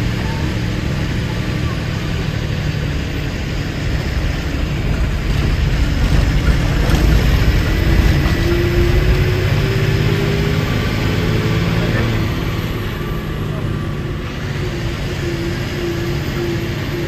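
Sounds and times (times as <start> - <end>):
bus engine running: 0.0 - 17.0
road noise: 0.0 - 17.0.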